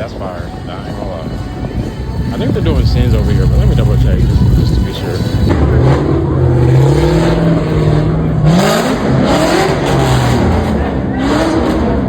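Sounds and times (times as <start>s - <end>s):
car engine revving and accelerating: 1.8s - 12.0s.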